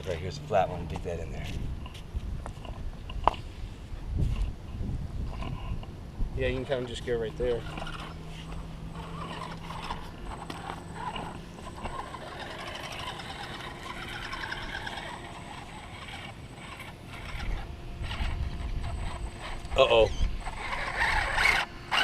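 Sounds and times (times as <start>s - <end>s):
rc car motor and gears whining: 4.2s - 22.0s.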